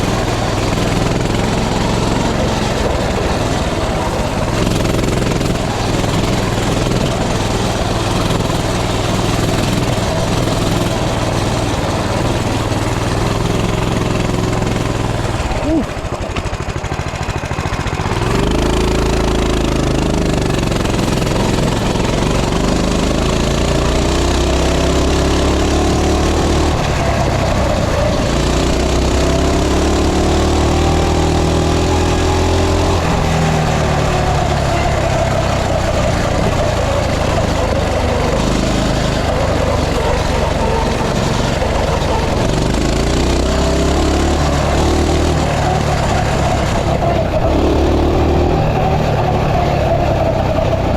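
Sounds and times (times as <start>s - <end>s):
mini bike engine revving: 0.0s - 50.9s.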